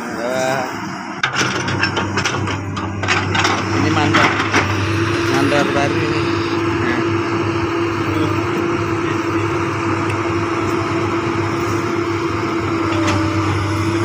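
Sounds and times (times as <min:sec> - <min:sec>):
excavator diesel engine droning: 0:00.0 - 0:14.0.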